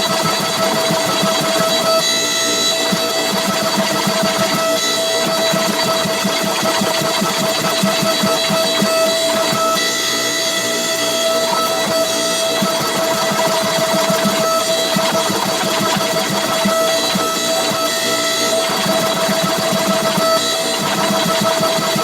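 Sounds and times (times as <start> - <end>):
machinery high whine: 0.0 - 22.0.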